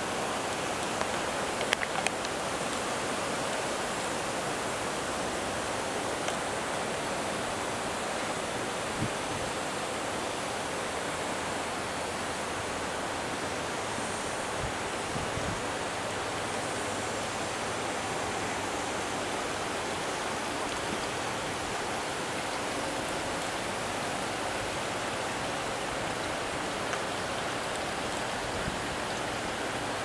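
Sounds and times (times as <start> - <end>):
running water: 0.0 - 30.0.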